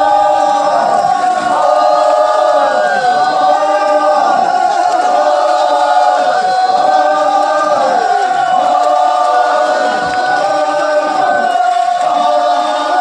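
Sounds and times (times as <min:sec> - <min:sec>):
group of voices chanting: 0:00.0 - 0:13.0.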